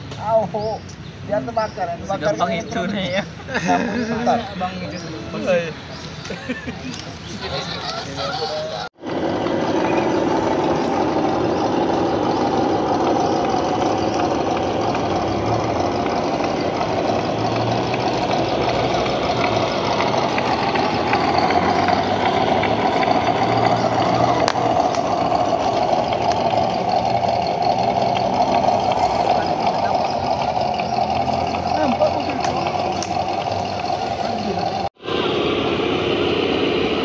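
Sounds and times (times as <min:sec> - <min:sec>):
toy truck electric motor and gearbox: 0:04.0 - 0:35.0.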